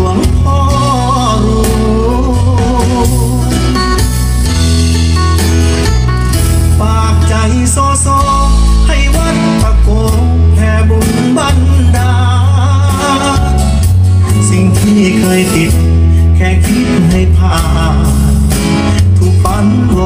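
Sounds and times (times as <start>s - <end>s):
song with singing and heavy bass: 0.0s - 20.0s.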